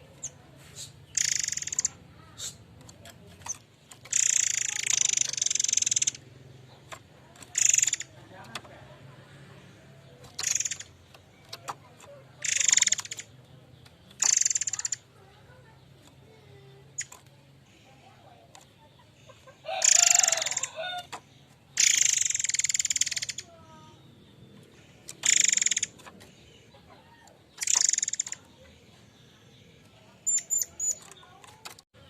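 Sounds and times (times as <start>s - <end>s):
bird harsh rasping calls: 0.0s - 31.7s.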